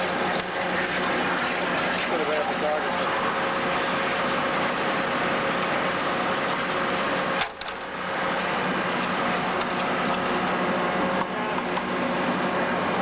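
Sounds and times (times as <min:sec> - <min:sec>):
machine whine: 0:00.0 - 0:13.0.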